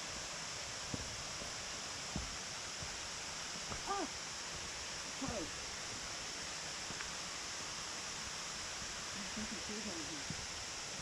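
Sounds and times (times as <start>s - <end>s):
outdoor rushing hiss: 0.0s - 11.0s.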